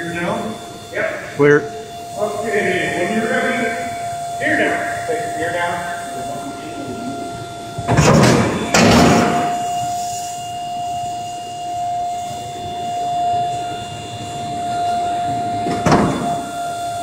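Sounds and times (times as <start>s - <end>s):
high-pitched hydraulic whine: 0.0s - 17.0s.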